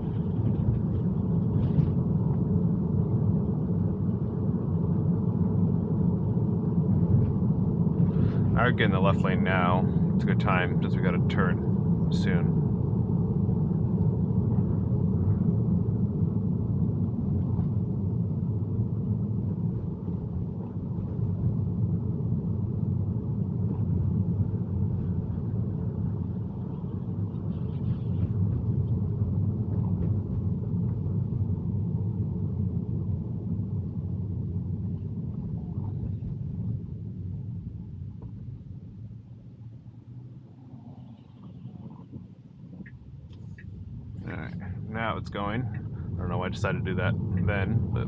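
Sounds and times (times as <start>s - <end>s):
road and tyre rumble: 0.0s - 48.0s.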